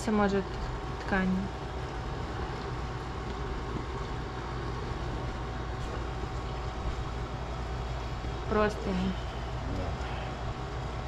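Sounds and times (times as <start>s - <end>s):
low rumbling hum: 0.0s - 11.0s.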